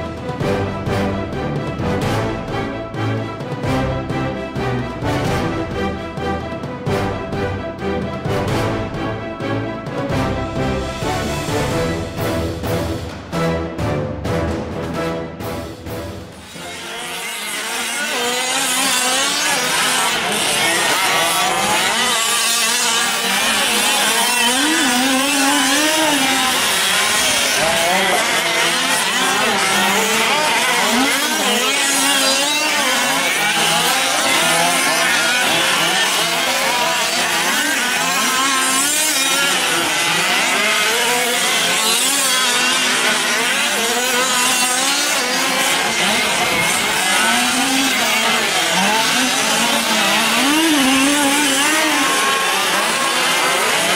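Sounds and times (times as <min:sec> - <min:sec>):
small two-stroke engines racing: 0:00.0 - 0:13.2, 0:16.3 - 0:53.9.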